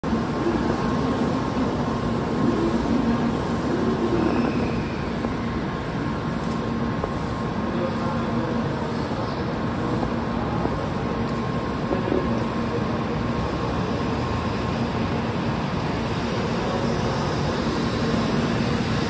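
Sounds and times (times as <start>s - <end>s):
train equipment hum and whir: 0.0s - 19.0s.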